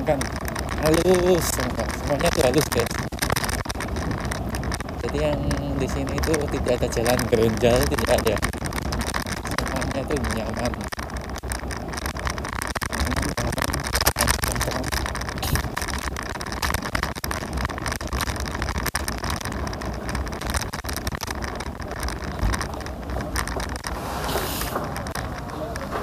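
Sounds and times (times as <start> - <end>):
tyre and road noise: 0.0 - 26.0
wind buffeting microphone: 0.0 - 26.0.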